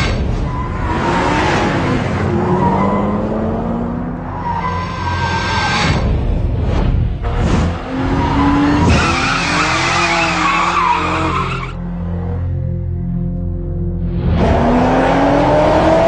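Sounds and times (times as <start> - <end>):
car engine revving: 0.0 - 11.5, 14.1 - 16.0.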